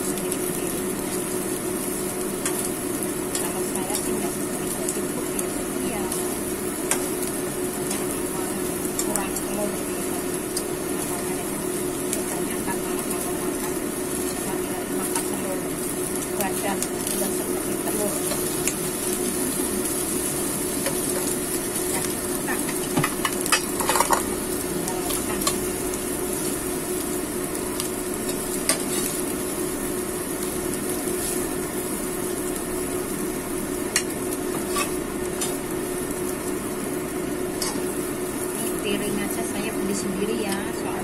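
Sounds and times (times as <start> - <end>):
egg sizzling in a pan: 0.0 - 41.0.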